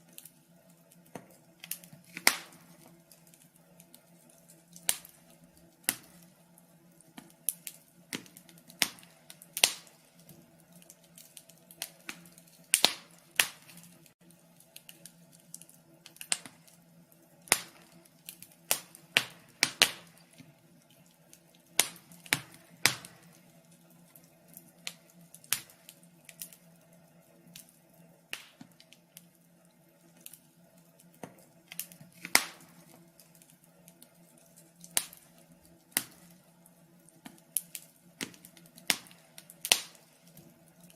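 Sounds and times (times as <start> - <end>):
faint steady hum: 0.0 - 40.9
wood fire crackling and popping: 0.0 - 40.9.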